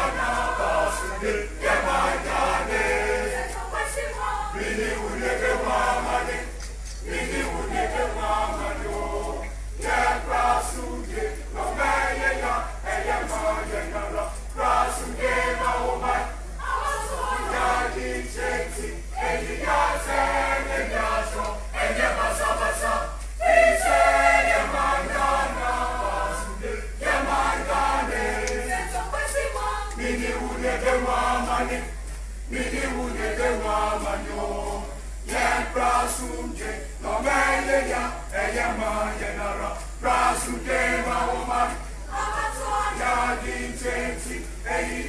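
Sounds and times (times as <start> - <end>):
choir singing: 0.0 - 45.0.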